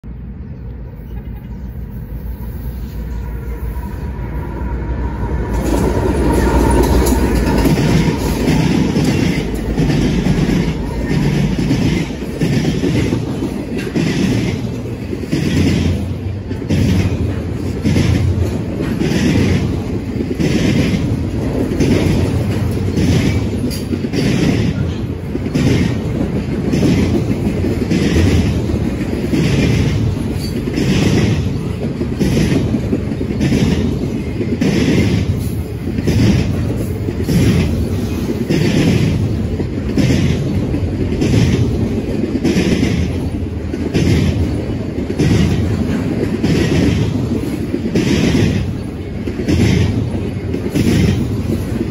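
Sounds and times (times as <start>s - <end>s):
train wheels rumbling on rail: 0.0s - 51.9s
wheels clacking over rail joints: 5.3s - 51.9s.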